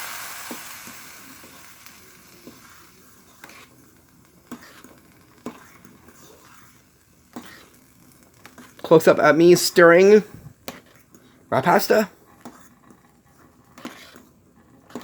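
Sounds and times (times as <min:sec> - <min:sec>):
boiling water hiss: 0:00.0 - 0:12.6.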